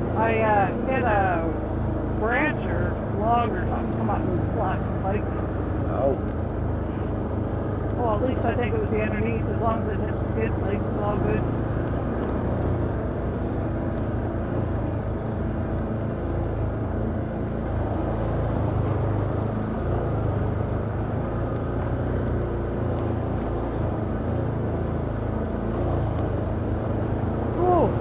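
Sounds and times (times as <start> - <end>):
atv engine droning: 0.0 - 28.0.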